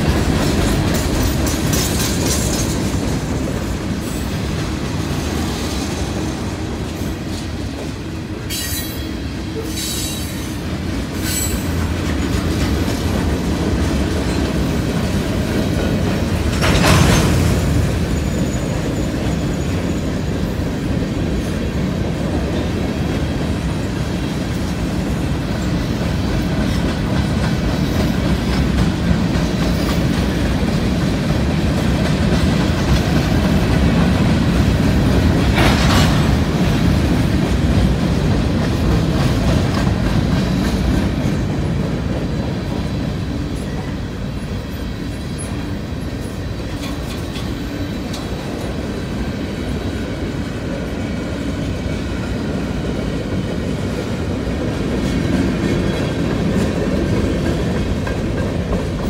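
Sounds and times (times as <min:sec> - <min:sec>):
clickety-clack over rail joints: 0:00.0 - 0:59.0
freight train wheels rumbling: 0:00.0 - 0:59.0.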